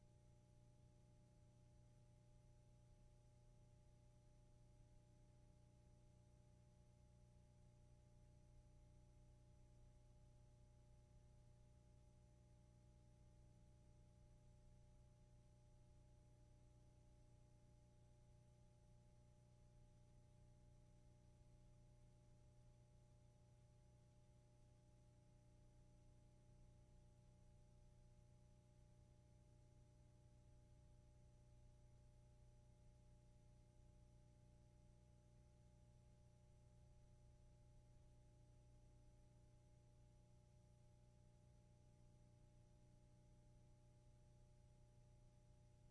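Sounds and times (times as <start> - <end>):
faint low hum: 0.0 - 45.9.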